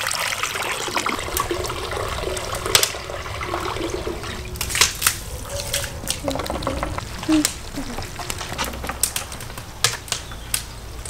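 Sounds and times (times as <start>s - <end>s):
water gushing from a hose: 0.0s - 9.8s.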